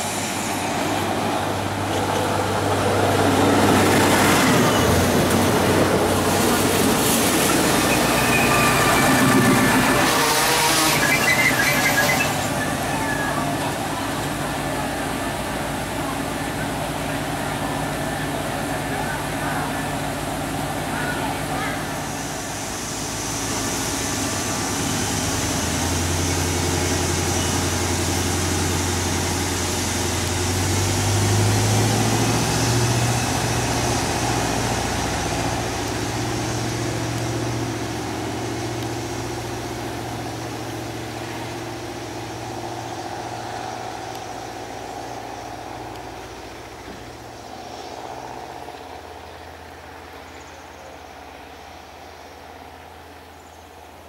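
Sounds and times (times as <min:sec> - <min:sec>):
train diesel engines under load: 0:00.0 - 0:54.0.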